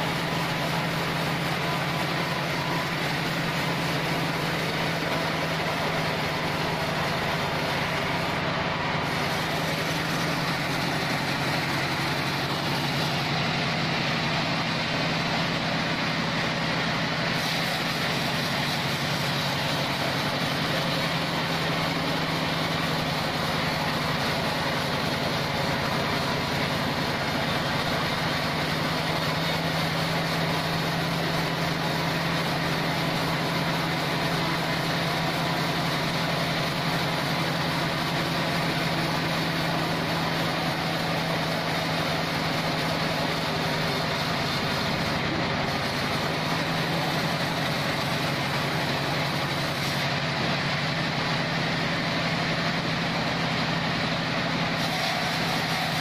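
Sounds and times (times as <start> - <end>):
band sawmill running: 0.0 - 56.0.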